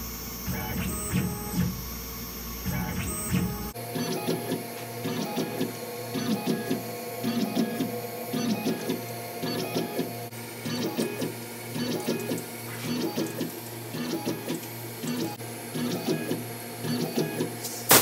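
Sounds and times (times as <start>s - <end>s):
rhythmic mechanical chatter: 0.0s - 1.9s, 2.5s - 17.8s
mill spindle humming: 0.0s - 17.8s.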